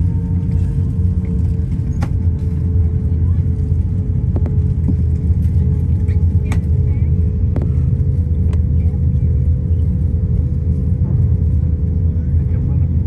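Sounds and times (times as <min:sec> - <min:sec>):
aircraft cabin engine rumble: 0:00.0 - 0:13.0
constant hum: 0:00.0 - 0:13.0.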